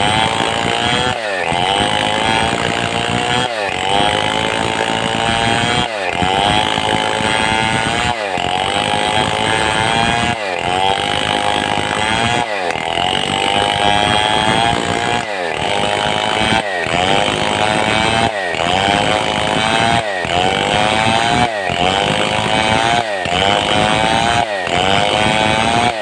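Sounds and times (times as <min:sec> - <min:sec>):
chainsaw cutting log: 0:00.0 - 0:26.0.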